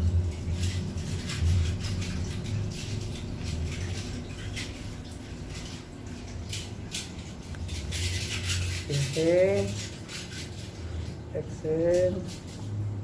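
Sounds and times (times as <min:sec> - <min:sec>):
soft rustling and scraping: 0:00.4 - 0:13.0.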